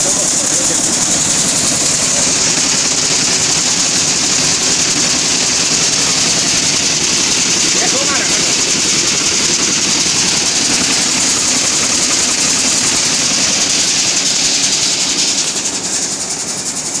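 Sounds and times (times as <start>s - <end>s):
nut chopping machine rattling: 0.0s - 17.0s.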